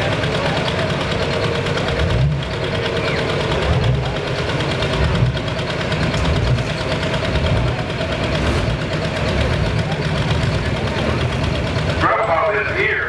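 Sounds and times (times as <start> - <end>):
diesel tractor engine idling: 0.0 - 13.0.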